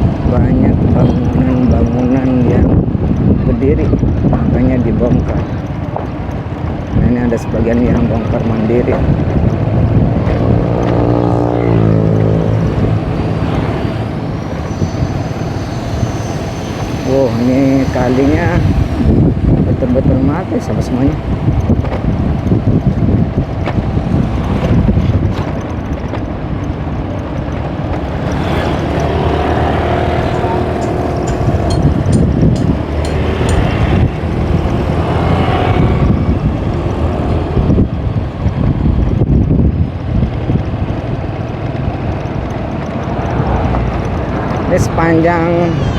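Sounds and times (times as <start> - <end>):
motor engine humming: 0.0 - 45.9
outdoor rumble: 0.0 - 45.9
wind buffeting microphone: 0.0 - 45.9.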